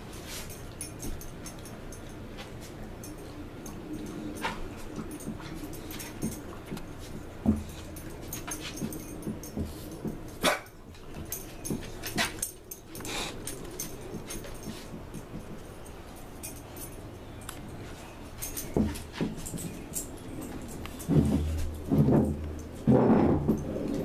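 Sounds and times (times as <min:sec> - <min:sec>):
dog sniffing and snuffling: 0:00.0 - 0:22.8.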